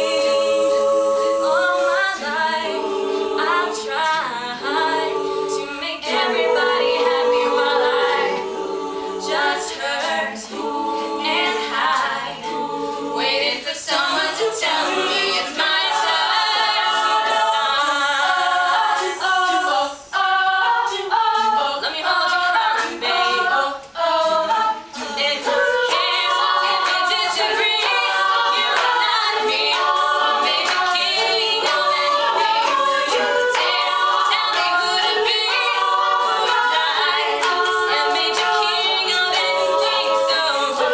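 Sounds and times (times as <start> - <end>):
women singing in close harmony: 0.0 - 40.9.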